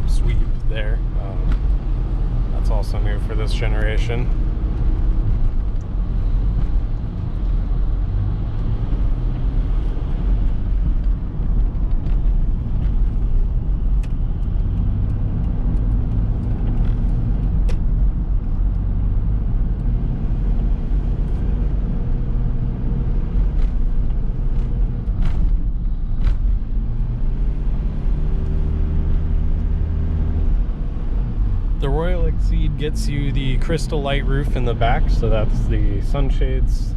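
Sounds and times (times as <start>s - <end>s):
diesel engine drone: 0.0s - 36.9s
road noise: 0.0s - 36.9s.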